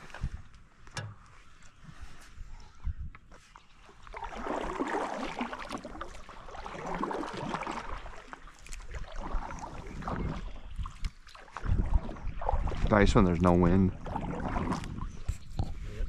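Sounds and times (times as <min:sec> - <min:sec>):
paddle swishing through water: 0:00.0 - 0:16.0.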